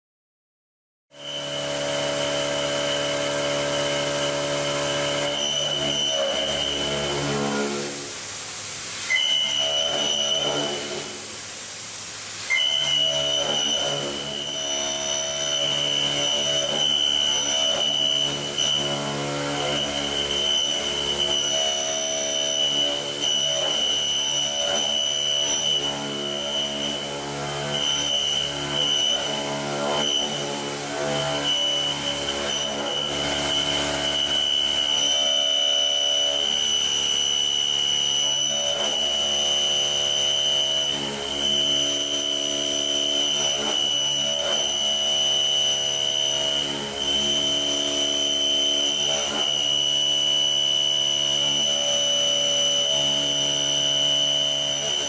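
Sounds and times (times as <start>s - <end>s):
machine whine: 1.1s - 8.2s, 9.0s - 11.4s, 12.4s - 55.0s.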